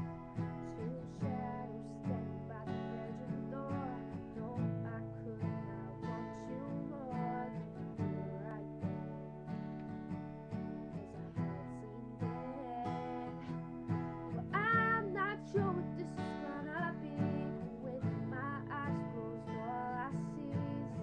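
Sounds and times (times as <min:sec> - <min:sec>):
person singing: 0:00.0 - 0:09.4, 0:11.0 - 0:21.0
acoustic guitar strumming: 0:00.0 - 0:21.0.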